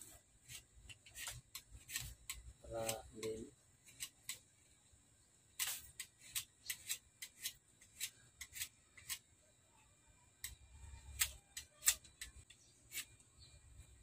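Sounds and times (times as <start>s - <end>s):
knife shaving wood: 0.0s - 4.7s, 5.6s - 9.3s, 10.4s - 13.9s.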